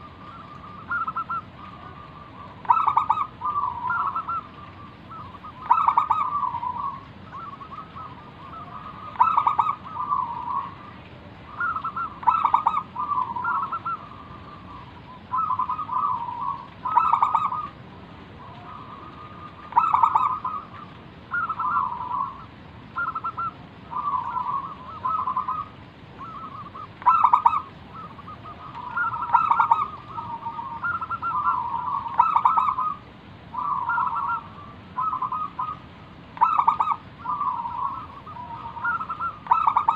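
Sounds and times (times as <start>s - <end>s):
dove cooing: 0.0s - 17.8s, 18.4s - 39.9s.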